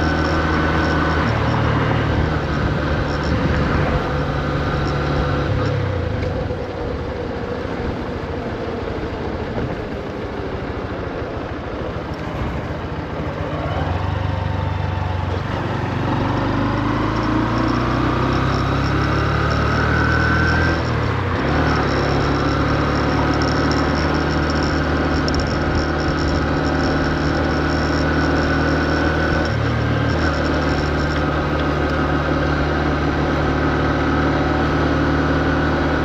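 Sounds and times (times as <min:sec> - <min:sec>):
motorcycle engine at low revs: 0:00.0 - 0:36.0.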